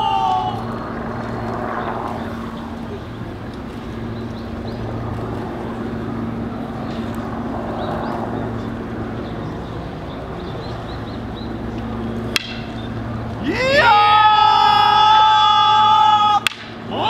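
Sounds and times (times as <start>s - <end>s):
low drone with hum: 0.0s - 17.0s.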